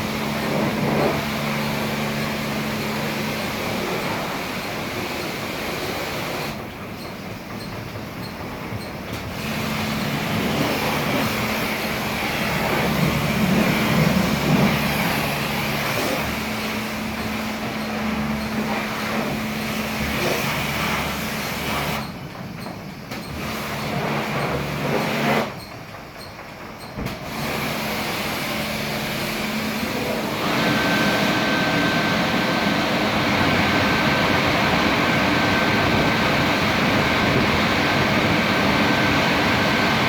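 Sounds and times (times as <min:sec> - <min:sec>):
car wash motor hum: 0:00.0 - 0:25.6, 0:27.0 - 0:40.0.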